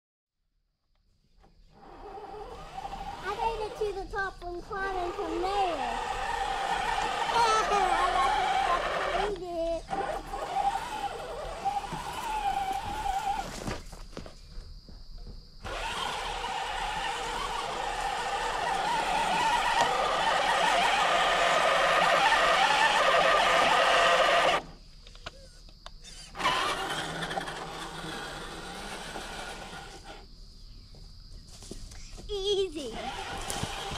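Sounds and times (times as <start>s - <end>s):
toy car electric motor whining: 1.5s - 13.8s, 15.6s - 25.4s, 26.0s - 30.3s, 32.7s - 33.9s.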